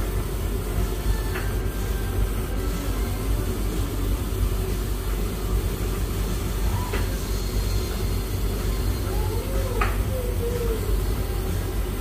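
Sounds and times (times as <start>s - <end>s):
washing machine rumbling: 0.0s - 12.0s.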